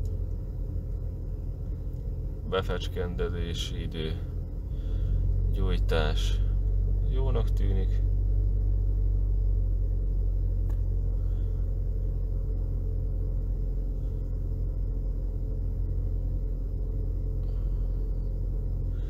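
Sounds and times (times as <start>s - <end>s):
petrol engine idling: 0.0s - 19.0s.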